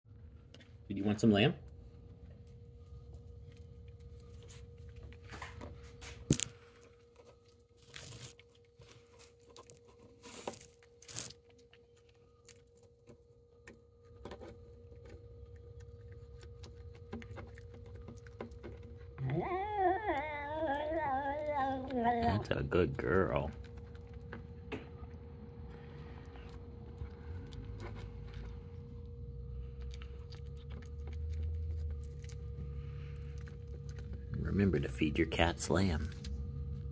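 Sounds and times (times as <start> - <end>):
faint steady hum: 0.1 - 36.9
cat chewing and licking: 1.7 - 36.9.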